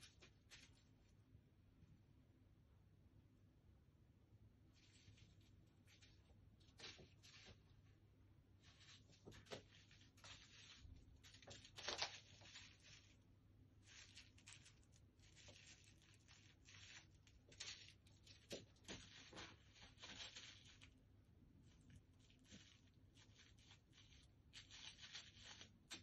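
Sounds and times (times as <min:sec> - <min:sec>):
faint scratching and rustling: 0:00.0 - 0:01.2, 0:04.6 - 0:26.0.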